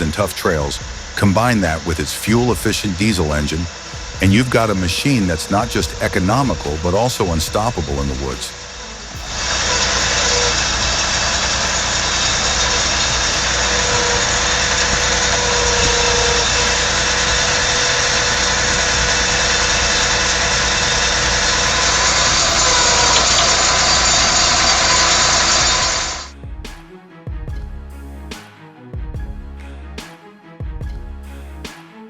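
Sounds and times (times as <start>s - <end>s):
forestry machine engine running: 0.0s - 26.3s.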